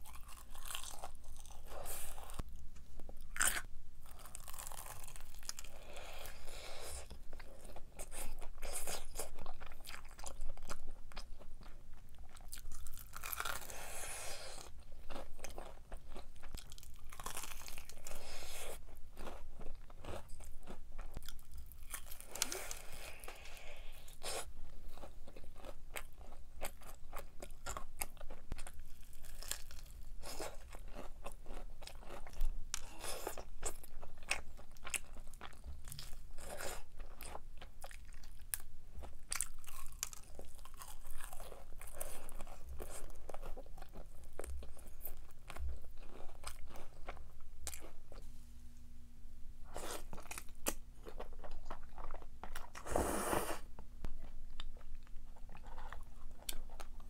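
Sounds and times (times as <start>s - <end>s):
person chewing crunchy food: 0.0s - 48.2s, 49.7s - 57.0s.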